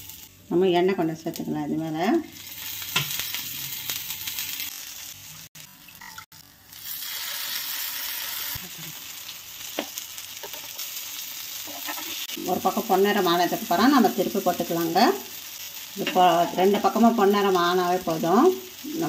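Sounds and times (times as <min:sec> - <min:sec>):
cutlets sizzling in oil: 0:00.0 - 0:19.0.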